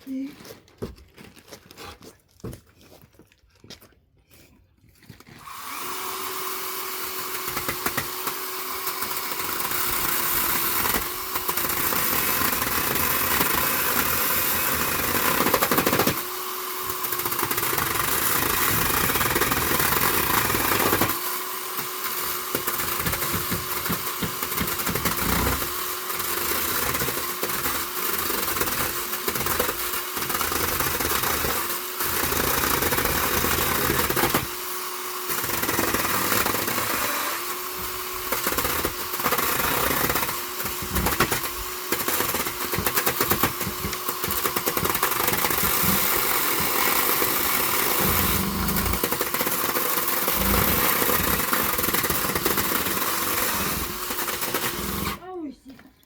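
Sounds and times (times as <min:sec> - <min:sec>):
power drill driving screws into wood: 0:05.2 - 0:55.2.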